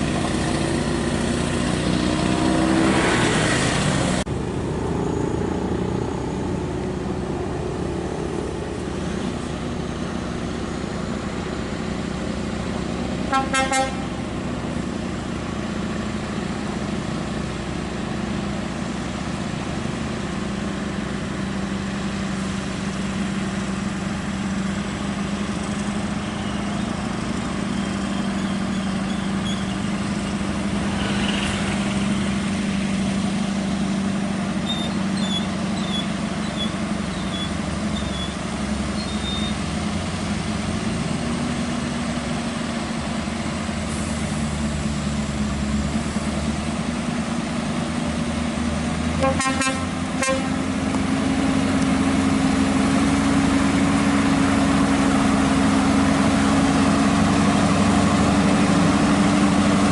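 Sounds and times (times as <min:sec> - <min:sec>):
truck diesel engine running: 0:00.0 - 0:59.9.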